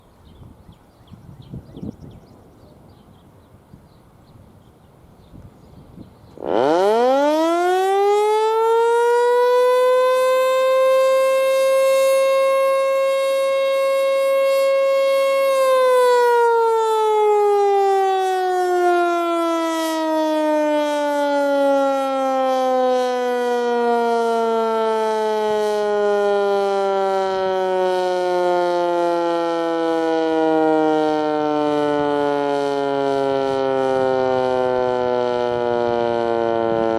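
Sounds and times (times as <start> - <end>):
outdoor warning siren: 6.3 - 36.9.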